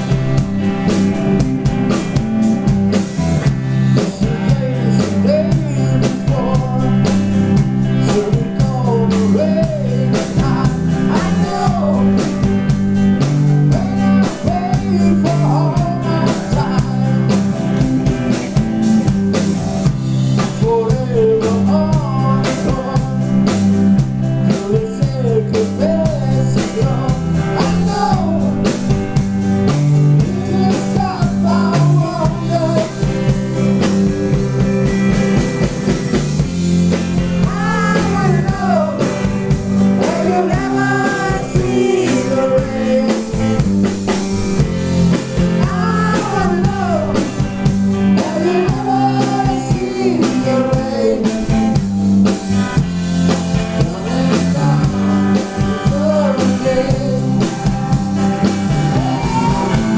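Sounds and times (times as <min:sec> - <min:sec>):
bass guitar: 0:00.0 - 0:59.9
drum kit: 0:00.0 - 0:59.9
electric guitar: 0:00.0 - 0:59.9
man singing: 0:03.4 - 0:18.4, 0:20.3 - 0:33.9, 0:37.0 - 0:51.9, 0:53.3 - 0:58.0, 0:58.6 - 0:59.9.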